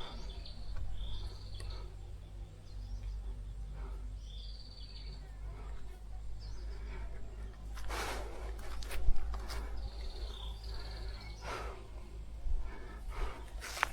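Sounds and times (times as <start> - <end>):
birds trilling: 0.0 - 8.6, 9.3 - 13.9
low steady rumble: 0.0 - 13.9.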